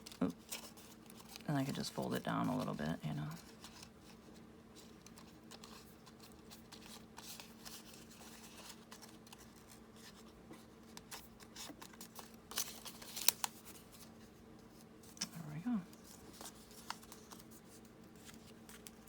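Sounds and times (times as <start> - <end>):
paper and tape rustling: 0.0 - 19.0.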